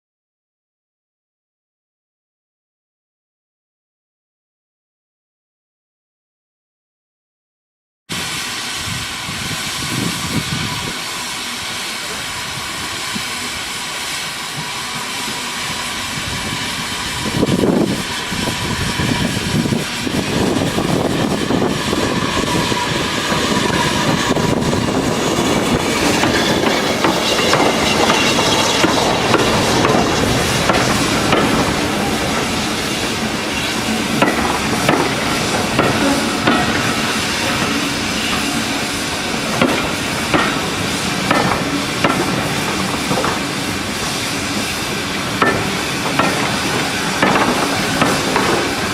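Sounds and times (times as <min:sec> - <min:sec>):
steam hissing: 0:08.1 - 0:48.9
steam locomotive working: 0:08.1 - 0:48.9.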